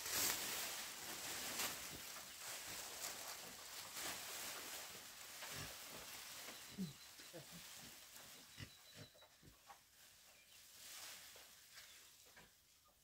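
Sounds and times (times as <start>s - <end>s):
faint rustling and scraping: 0.0s - 13.0s.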